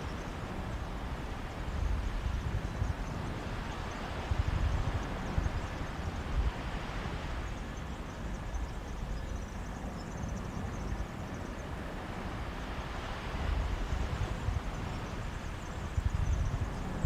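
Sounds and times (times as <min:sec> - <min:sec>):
sea waves washing on beach: 0:00.0 - 0:17.0
wind buffeting microphone: 0:00.0 - 0:17.0.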